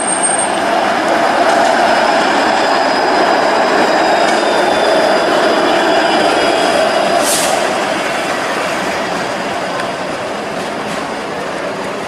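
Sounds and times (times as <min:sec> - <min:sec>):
streetcar wheels rumbling on rail: 0:00.0 - 0:12.0.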